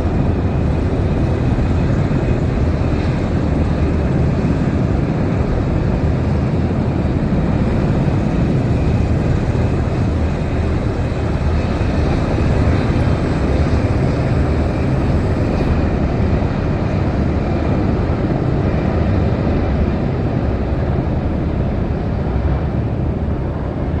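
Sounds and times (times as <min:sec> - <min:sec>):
aircraft engine noise: 0:00.0 - 0:24.0.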